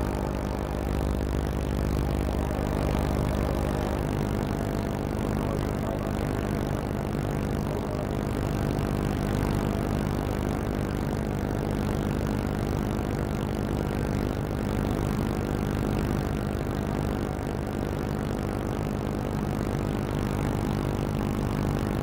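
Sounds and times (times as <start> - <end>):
boat diesel engine droning: 0.0 - 22.0.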